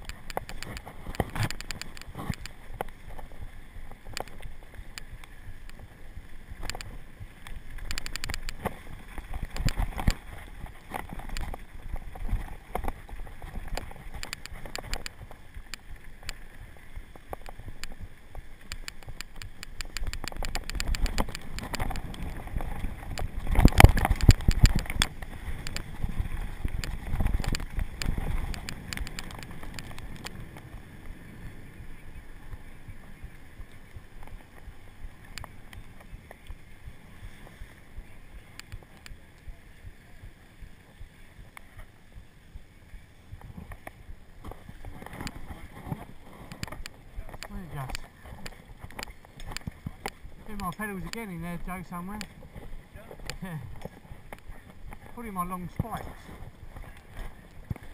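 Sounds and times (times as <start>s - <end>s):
bike rattling and knocking: 0.0s - 42.3s, 43.0s - 57.9s
bike tyre rumble on dirt: 0.0s - 57.9s.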